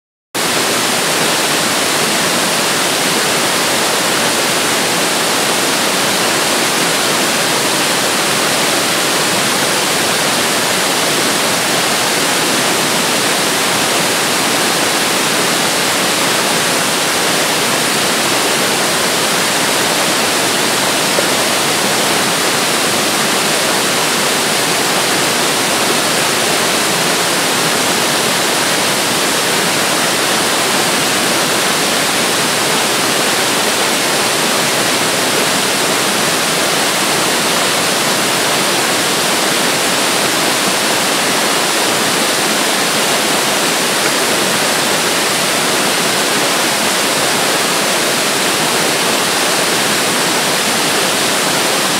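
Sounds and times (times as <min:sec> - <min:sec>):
waterfall rushing: 0:00.4 - 0:51.9.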